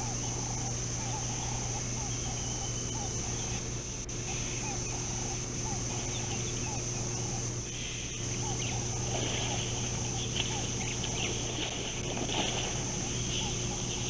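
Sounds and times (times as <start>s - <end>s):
guineafowl calling: 0.0s - 14.0s
harsh chattering bird calls: 0.0s - 14.0s.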